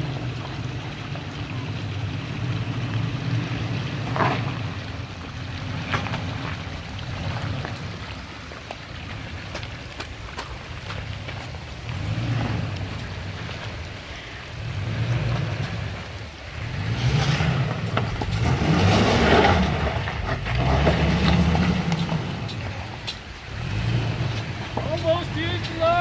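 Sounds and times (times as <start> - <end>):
truck engine pulling in surges: 0.0 - 26.0
stones crunching under tyres: 3.7 - 26.0.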